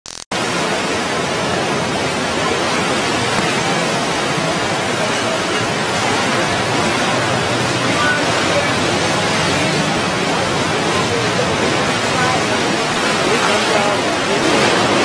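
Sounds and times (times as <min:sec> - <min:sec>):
floodwater rushing: 0:00.3 - 0:15.0.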